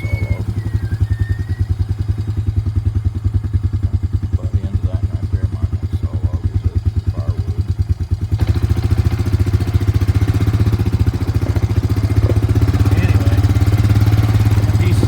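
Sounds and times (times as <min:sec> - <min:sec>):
engine running and revving up: 0:00.0 - 0:15.0.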